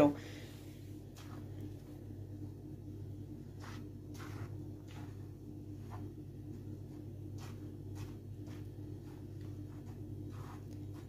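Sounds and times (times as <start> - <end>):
hands rubbing flour in a bowl: 0.0 - 11.0
steady low hum: 0.0 - 11.0.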